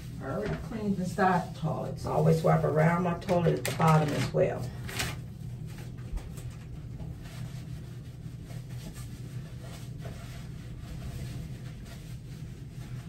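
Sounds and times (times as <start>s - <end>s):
steady low hum: 0.0s - 13.0s
wipe rustling and rubbing: 0.0s - 13.0s.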